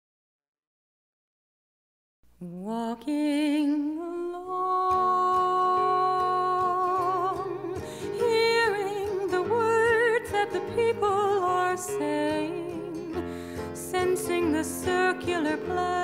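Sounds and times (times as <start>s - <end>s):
woman singing wordless melody: 2.4s - 16.0s.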